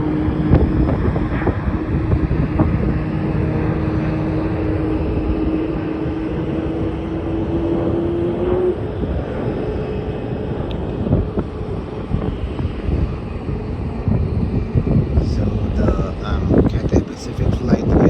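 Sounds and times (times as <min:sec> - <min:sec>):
jet engines rumbling and whining: 0:00.0 - 0:18.0.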